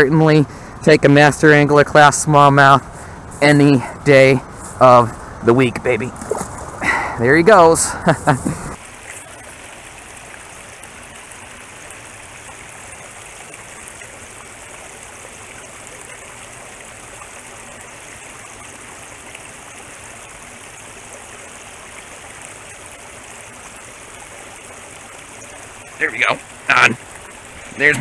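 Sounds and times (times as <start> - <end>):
river water rushing: 2.8 - 28.0.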